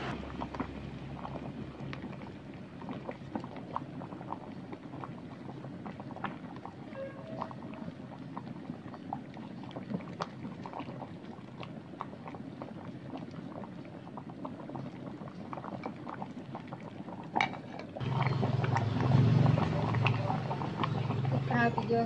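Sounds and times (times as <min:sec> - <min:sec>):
water boiling with bubbling: 0:00.0 - 0:22.0.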